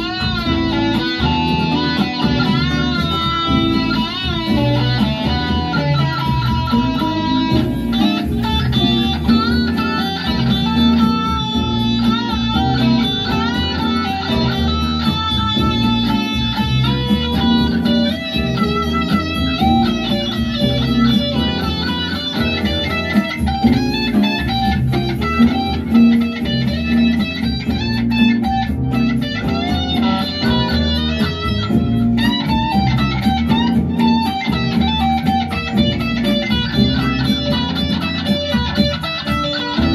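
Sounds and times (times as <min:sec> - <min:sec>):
electric guitar lead melody: 0:00.0 - 0:39.9.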